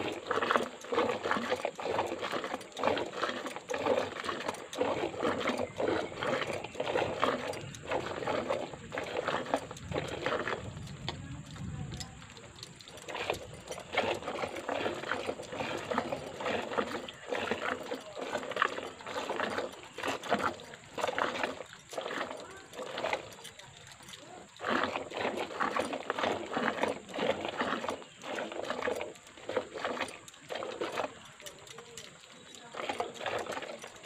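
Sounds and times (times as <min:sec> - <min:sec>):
milk squirting into steel bucket: 0:00.0 - 0:34.0.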